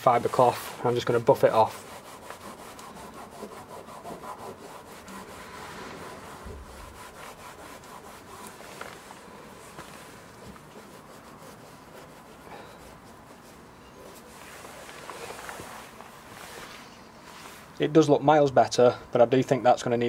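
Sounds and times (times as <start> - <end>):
cloth rubbing on plastic: 0.0 - 17.8.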